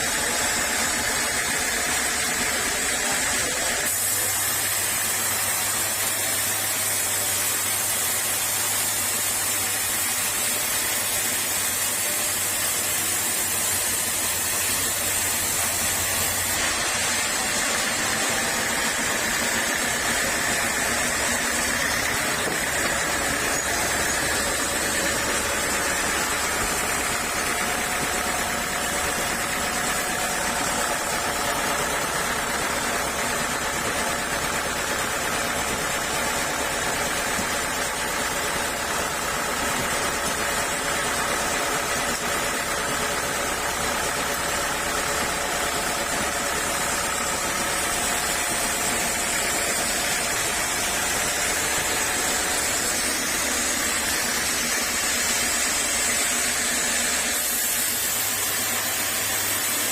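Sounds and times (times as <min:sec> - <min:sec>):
sawmill machine drone: 0:00.0 - 0:59.9.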